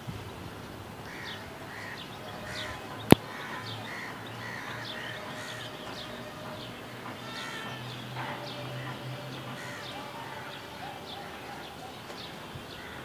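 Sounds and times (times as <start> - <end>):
birds chirping and calling: 0.2 - 13.0.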